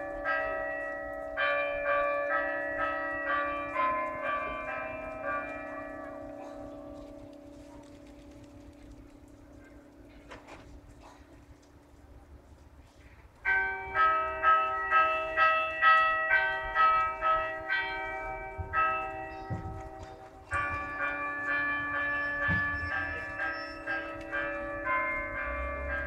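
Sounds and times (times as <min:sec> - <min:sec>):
church bells ringing: 0:00.0 - 0:10.9, 0:13.4 - 0:26.0.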